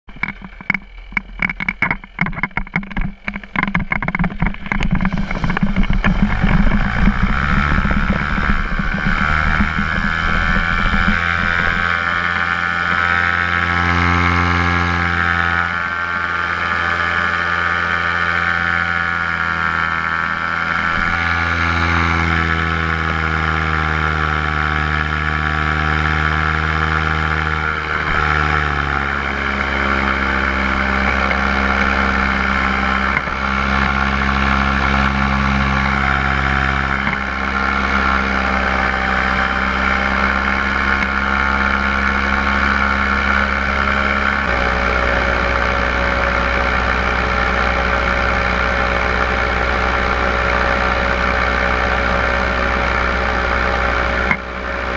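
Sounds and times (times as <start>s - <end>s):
paramotor engine and propeller: 0.0s - 54.9s.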